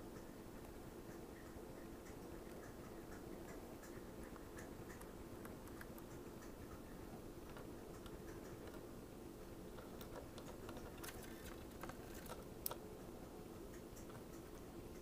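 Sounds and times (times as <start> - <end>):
birds pecking seeds: 0.1 - 15.0.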